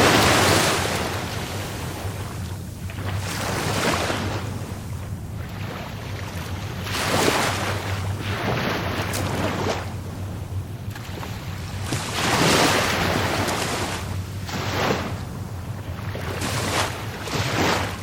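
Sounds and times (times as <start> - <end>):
low rumble of sea: 0.0 - 18.0
waves breaking: 0.0 - 18.0.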